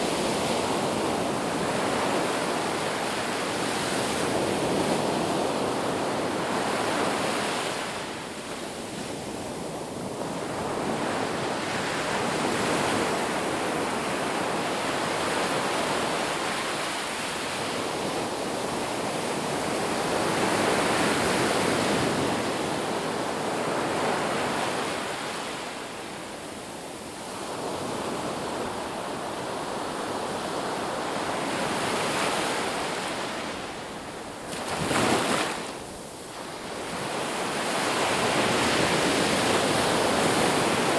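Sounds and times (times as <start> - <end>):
ocean waves on beach: 0.0 - 40.9.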